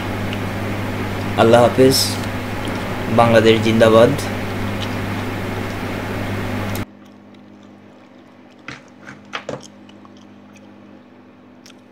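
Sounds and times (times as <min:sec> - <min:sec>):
faint steady hum: 0:00.0 - 0:11.9
fan low hum: 0:00.0 - 0:11.9.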